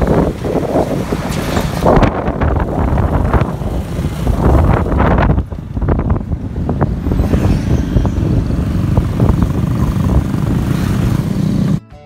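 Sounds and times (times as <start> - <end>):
wind buffeting microphone: 0.0 - 11.6
motorcycle riding on road: 0.0 - 11.8.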